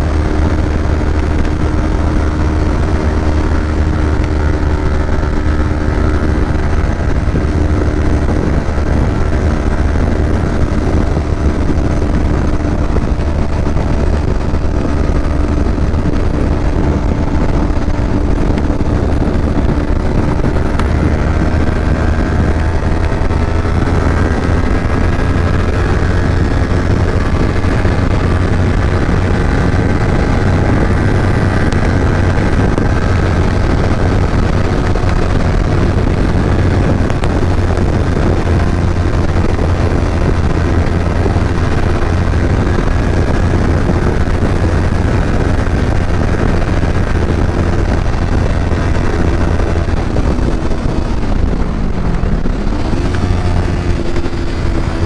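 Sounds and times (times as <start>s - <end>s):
motorcycle engine at speed: 0.0s - 55.0s
wind rushing over microphone: 0.0s - 55.0s.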